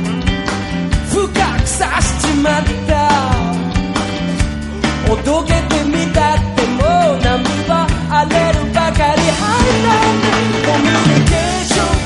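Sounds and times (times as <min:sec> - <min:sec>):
drum kit beat: 0:00.0 - 0:12.0
live funk band playing: 0:00.0 - 0:12.0.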